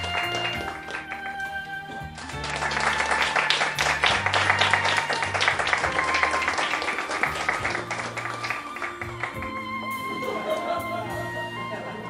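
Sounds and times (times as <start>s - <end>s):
audience applause: 0.0s - 11.2s
violin backing music with bass: 0.0s - 12.0s.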